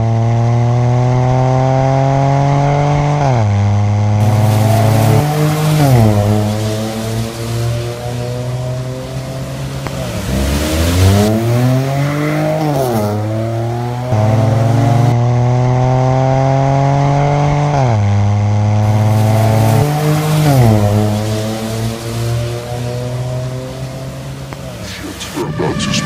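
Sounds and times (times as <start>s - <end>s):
car engine revving hard: 0.0s - 26.0s.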